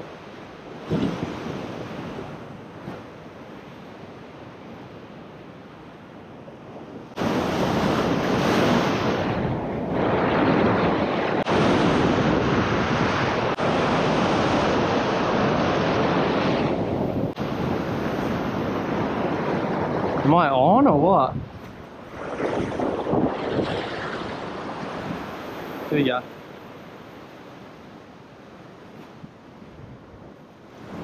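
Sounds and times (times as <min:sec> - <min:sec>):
ocean surf over rocks: 0:00.0 - 0:31.0.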